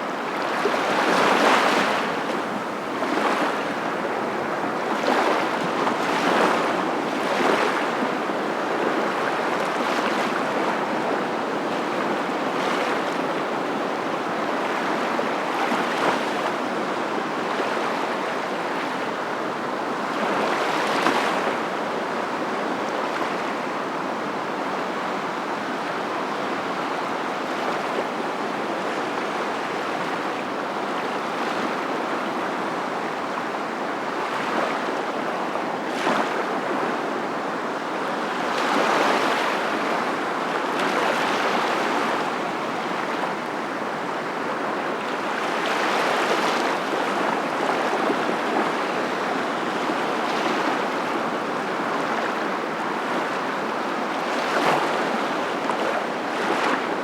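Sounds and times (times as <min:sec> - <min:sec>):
surf rushing water: 0:00.0 - 0:57.0.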